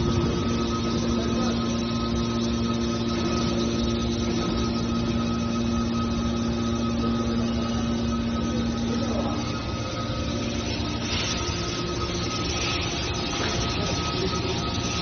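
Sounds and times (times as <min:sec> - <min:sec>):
hydraulic machine drone and whine: 0:00.0 - 0:15.0.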